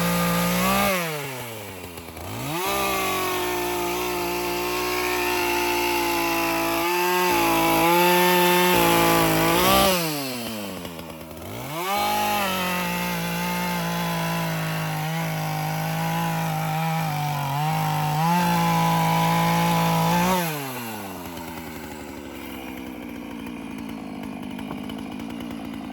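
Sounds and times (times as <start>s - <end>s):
chainsaw cutting wood: 0.0s - 25.9s.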